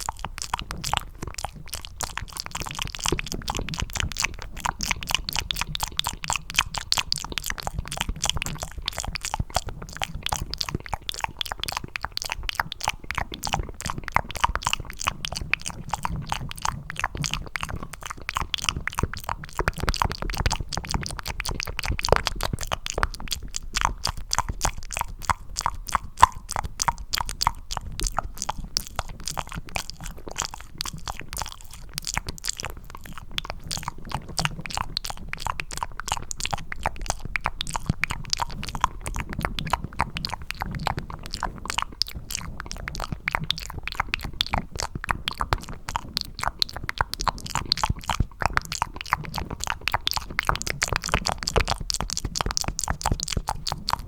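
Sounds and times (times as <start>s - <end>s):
wet mouth smacks and clicks: 0.0s - 54.0s.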